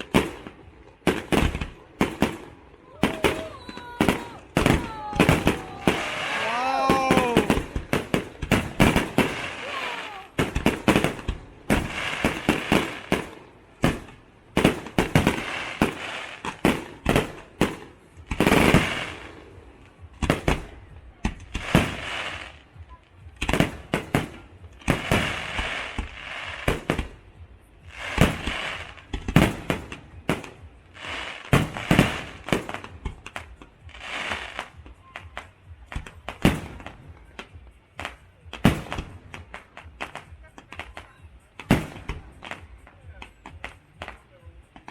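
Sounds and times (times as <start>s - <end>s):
fireworks bangs: 0.0s - 44.9s
fireworks crackling and fizzing: 0.0s - 44.9s.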